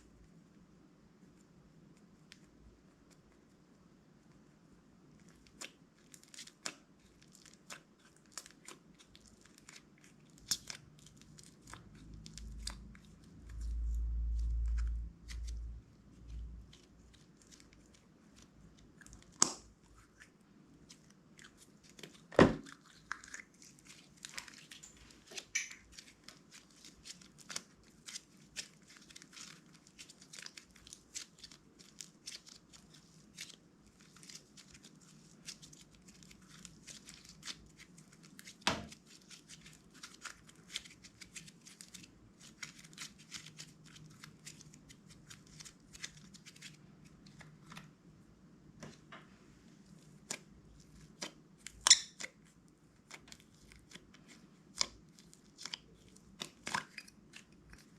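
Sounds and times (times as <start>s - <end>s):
sticky slime crackles: 5.1s - 47.9s, 49.8s - 57.9s.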